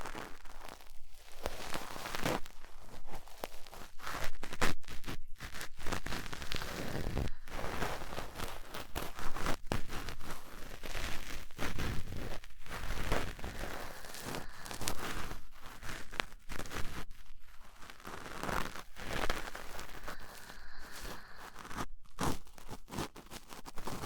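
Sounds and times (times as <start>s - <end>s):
cotton swab scratching microphone: 4.1s - 24.0s.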